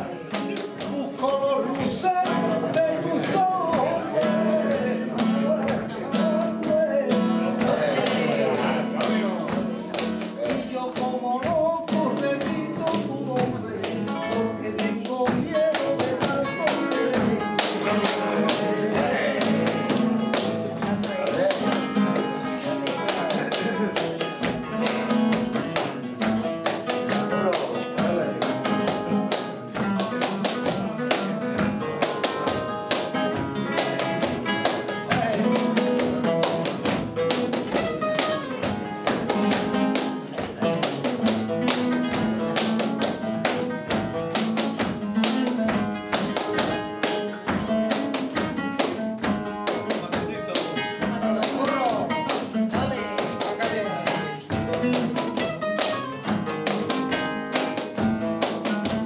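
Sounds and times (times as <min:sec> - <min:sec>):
flamenco guitar: 0:00.0 - 0:59.0
rhythmic hand-clapping: 0:00.0 - 0:59.0.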